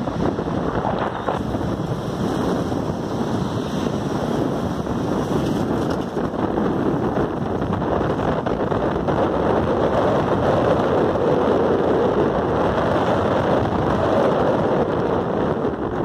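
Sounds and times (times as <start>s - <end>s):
vehicle wind and road noise: 0.0s - 16.0s
wind buffeting microphone: 0.0s - 16.0s.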